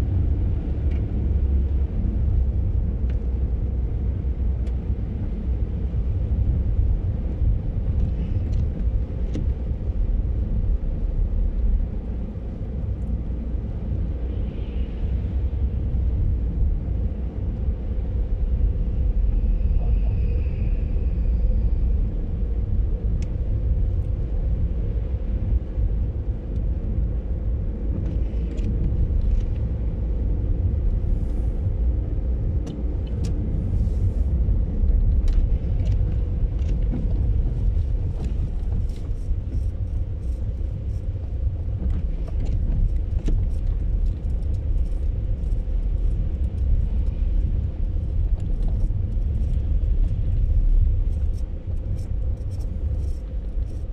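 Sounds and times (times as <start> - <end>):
engine and tyre rumble: 0.0 - 53.9
faint constant hum: 0.0 - 53.9.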